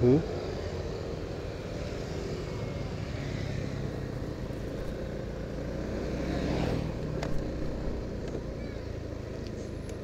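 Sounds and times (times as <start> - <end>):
road noise: 0.0 - 10.0
vehicle engine hum: 0.0 - 10.0.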